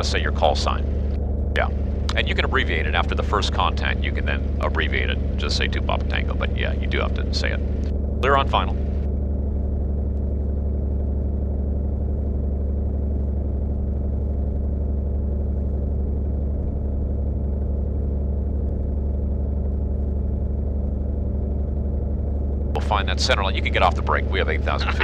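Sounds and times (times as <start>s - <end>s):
light aircraft engine droning: 0.0s - 25.0s.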